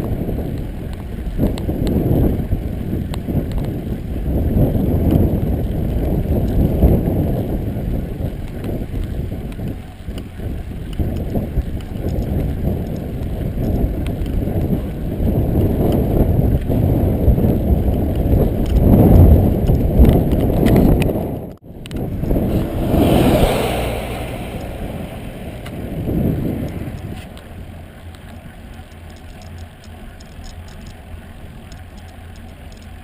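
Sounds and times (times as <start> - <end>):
bicycle rumble: 0.0 - 33.0
wind buffeting microphone: 0.0 - 33.0.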